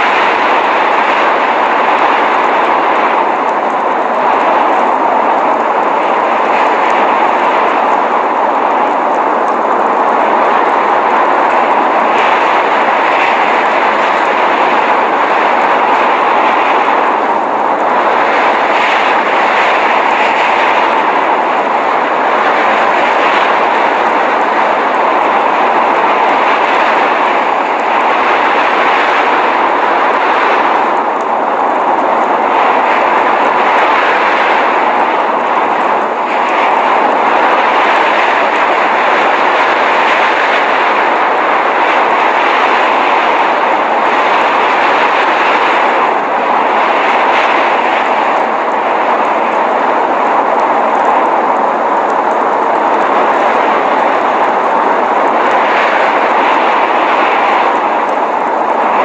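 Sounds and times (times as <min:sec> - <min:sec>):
blizzard wind hiss: 0:00.0 - 0:59.0.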